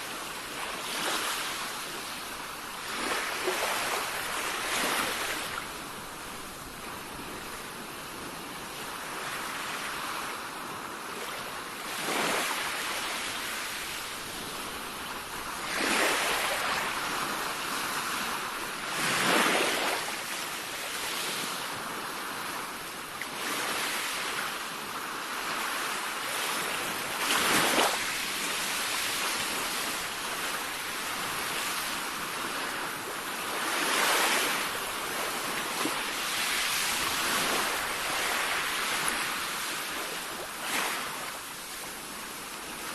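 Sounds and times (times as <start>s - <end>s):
sea waves crashing: 0.0s - 7.5s, 11.2s - 21.7s, 25.2s - 42.9s
continuous wash of surf: 0.0s - 42.9s.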